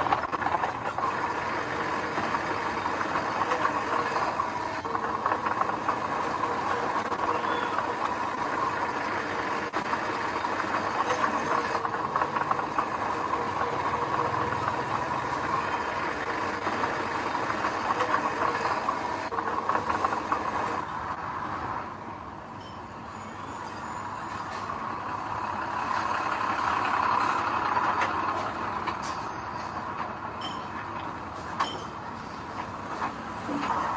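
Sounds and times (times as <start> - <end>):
earthmoving machine diesel engine: 0.0 - 33.9.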